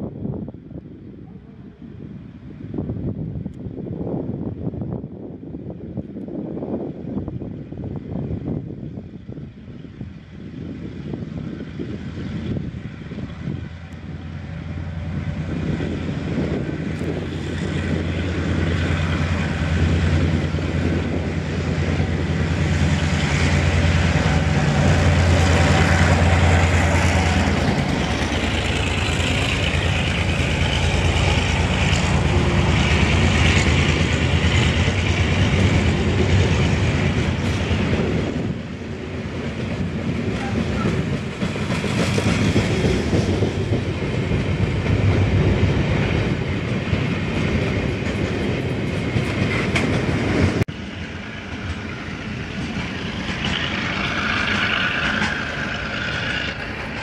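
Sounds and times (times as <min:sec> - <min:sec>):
diesel locomotive engine drone: 0:00.0 - 0:57.0
train wheels rumbling on rails: 0:00.0 - 0:57.0.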